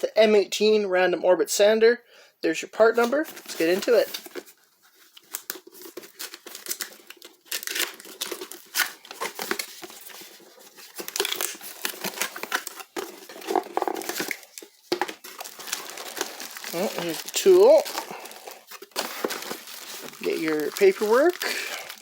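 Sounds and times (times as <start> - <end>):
cardboard packaging crinkling and tearing: 3.0 - 22.0.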